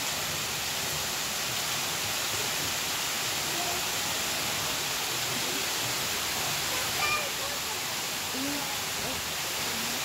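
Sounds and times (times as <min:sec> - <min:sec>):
waterfall pouring: 0:00.0 - 0:10.0.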